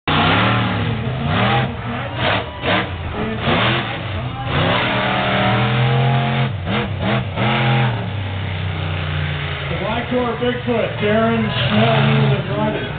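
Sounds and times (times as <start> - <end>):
monster truck engine revving: 0.1 - 12.9.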